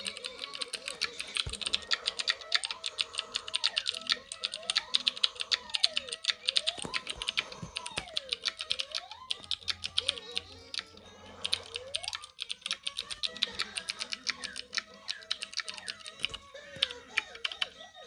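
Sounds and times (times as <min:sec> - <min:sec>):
fast clicking patter: 0:00.0 - 0:17.9.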